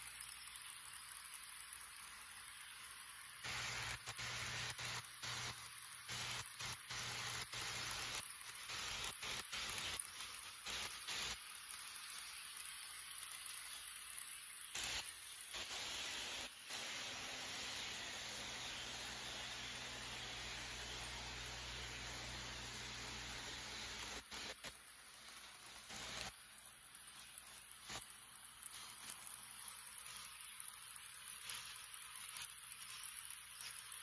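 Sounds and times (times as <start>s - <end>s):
model train wheels on rails: 0.0s - 34.0s.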